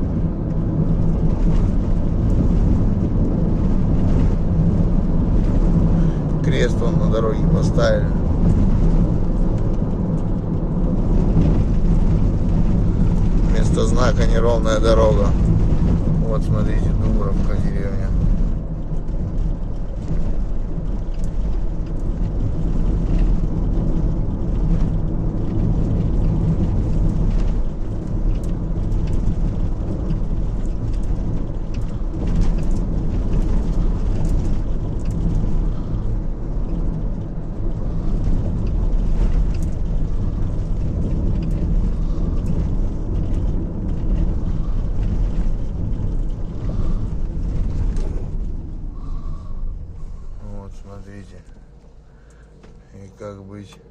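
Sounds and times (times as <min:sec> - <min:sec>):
car engine and road rumble: 0:00.0 - 0:53.9
wheels knocking and rattling: 0:00.0 - 0:53.9.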